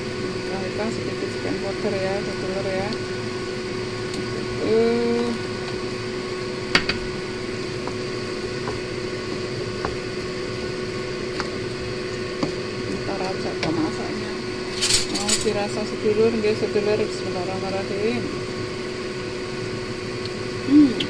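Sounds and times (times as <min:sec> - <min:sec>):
fan hum: 0:00.0 - 0:21.0.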